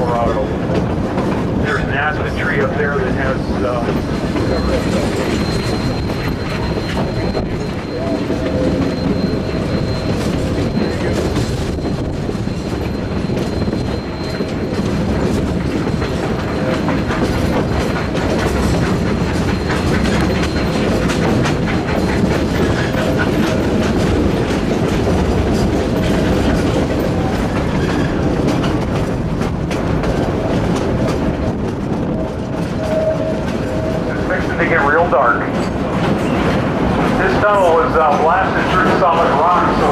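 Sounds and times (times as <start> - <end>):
train cars rumbling on track: 0.0 - 39.9
wheels clicking over rail joints: 0.0 - 39.9.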